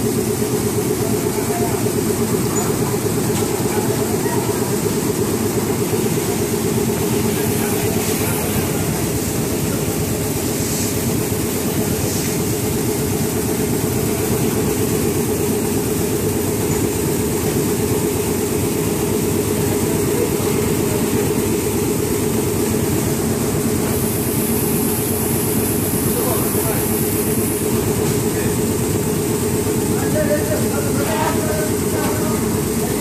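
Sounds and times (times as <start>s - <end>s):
machinery droning with rattle: 0.0s - 33.0s.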